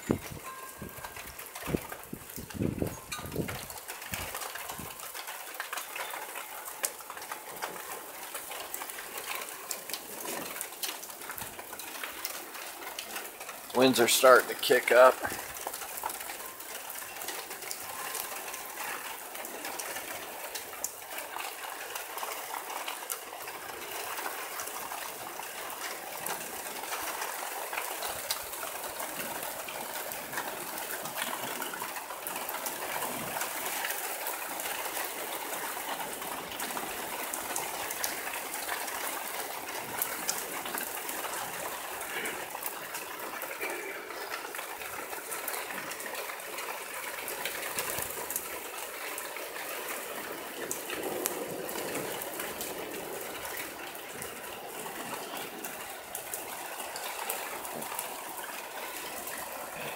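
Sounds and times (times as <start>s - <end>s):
heavy rain pouring: 0.0s - 59.9s
raindrops ticking on surfaces: 0.0s - 59.9s.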